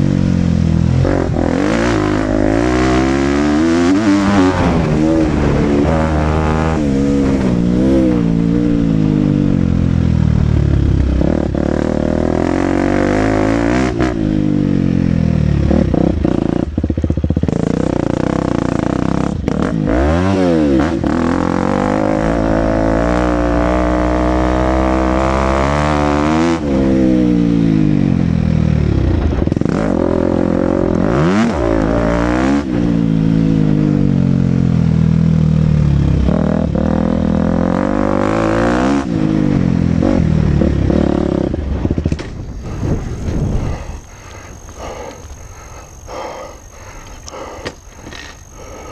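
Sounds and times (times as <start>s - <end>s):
motocross engine revving: 0.0s - 48.9s.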